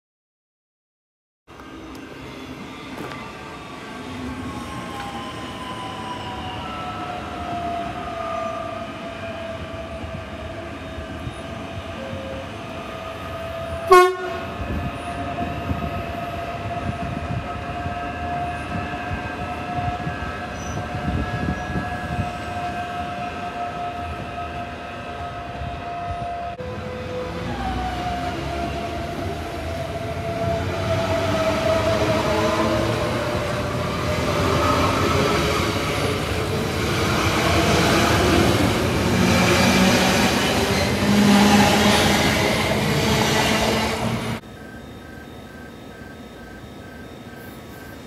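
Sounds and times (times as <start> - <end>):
wheels rumbling on rail: 1.5 - 48.0.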